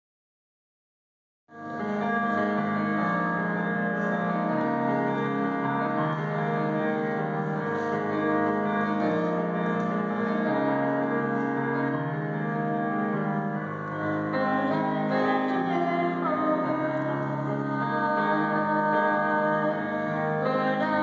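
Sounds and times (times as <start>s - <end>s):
piano playing sustained chords: 1.5s - 21.0s.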